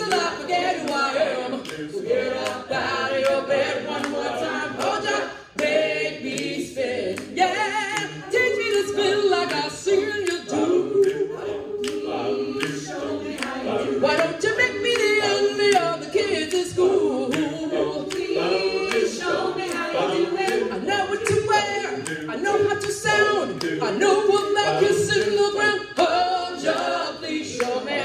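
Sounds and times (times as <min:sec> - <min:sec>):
a cappella group singing chords: 0:00.0 - 0:28.0.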